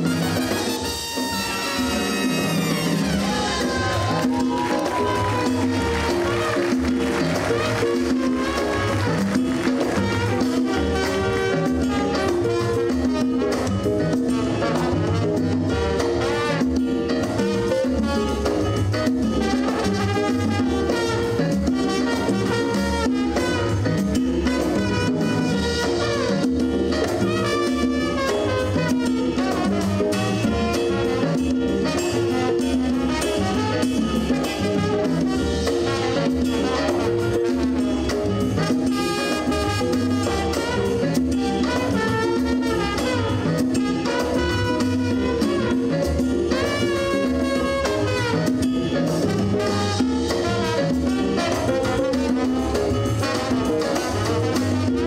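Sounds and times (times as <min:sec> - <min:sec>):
jazz big band playing: 0:00.0 - 0:55.0
trombone solo: 0:00.0 - 0:55.0.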